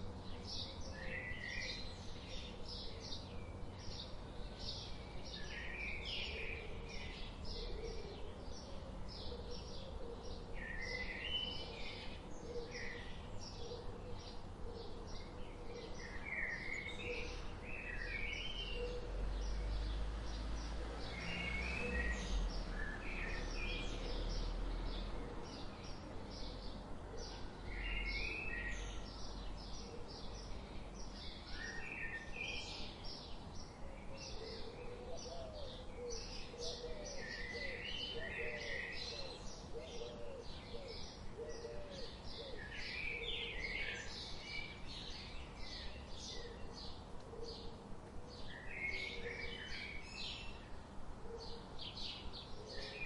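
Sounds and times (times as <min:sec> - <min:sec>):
birds chirping and singing: 0:00.0 - 0:50.7, 0:51.3 - 0:53.0.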